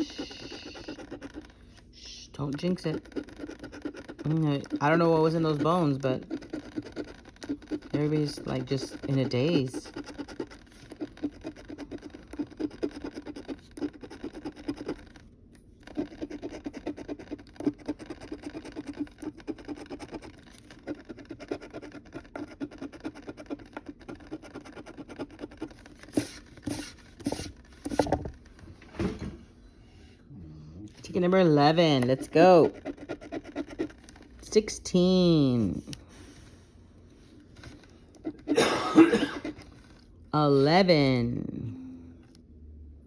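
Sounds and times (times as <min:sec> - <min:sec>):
scratching lottery ticket: 0:00.0 - 0:28.1, 0:31.0 - 0:35.9, 0:37.5 - 0:40.9.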